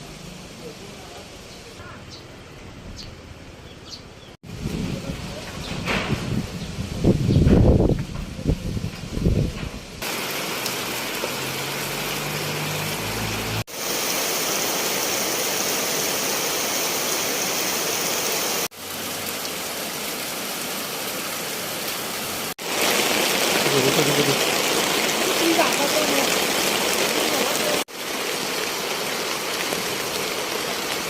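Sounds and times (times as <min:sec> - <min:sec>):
heavy rain falling: 0:04.4 - 0:31.0.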